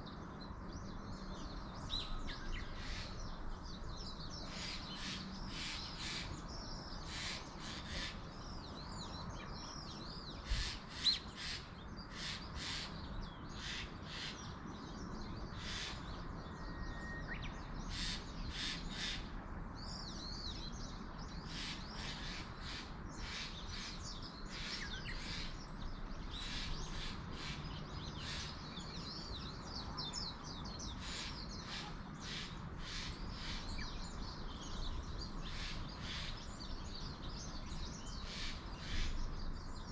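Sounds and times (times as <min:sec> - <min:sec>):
birds calling: 0:01.1 - 0:39.9.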